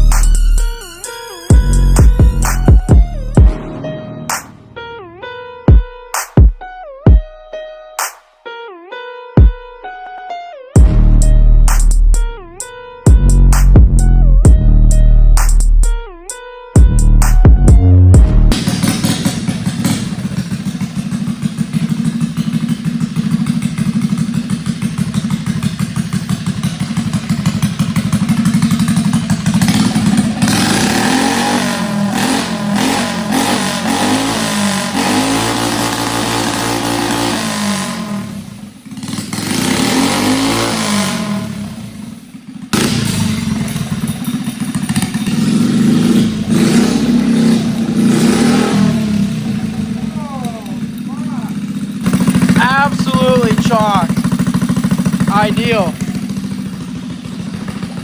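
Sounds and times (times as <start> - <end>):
motorbike engine revving: 0.0 - 7.3, 10.8 - 58.0.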